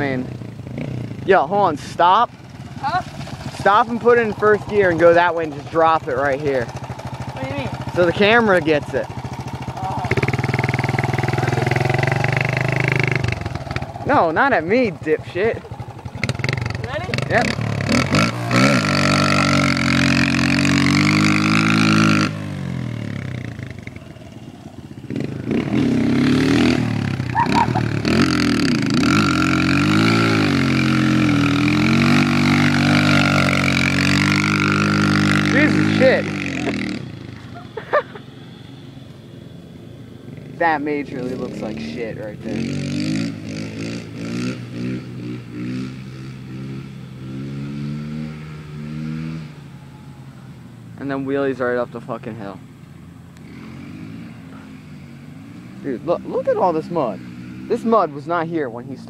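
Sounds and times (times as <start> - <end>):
dirt bike engine revving: 0.0 - 52.6, 53.4 - 59.0.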